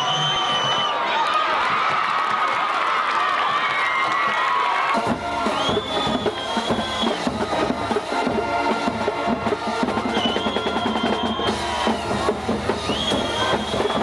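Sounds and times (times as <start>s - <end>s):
drums and percussion beat: 1.6s - 2.6s, 3.4s - 14.0s.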